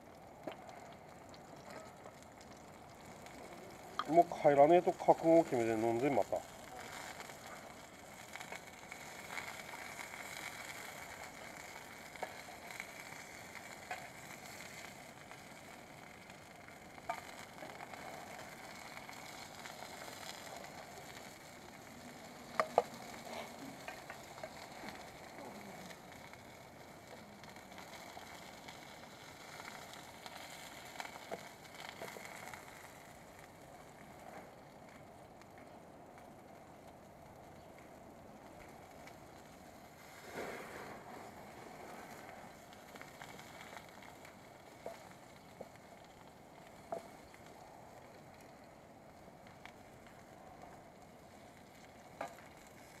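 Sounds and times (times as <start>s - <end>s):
campfire crackling: 0.0s - 53.0s
steady hiss: 0.0s - 53.0s.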